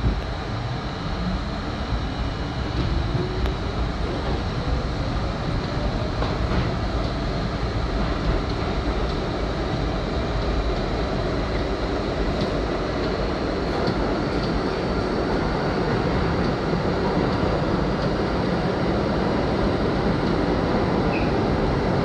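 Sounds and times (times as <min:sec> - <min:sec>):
subway train rumbling in tunnel: 0:00.0 - 0:22.0
wheels rattling on rail: 0:00.0 - 0:22.0.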